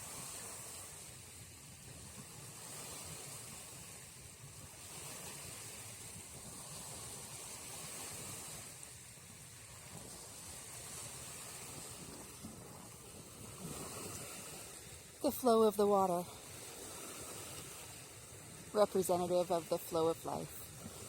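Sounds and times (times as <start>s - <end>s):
flowing water: 0.0s - 21.0s
wind buffeting microphone: 1.5s - 21.0s.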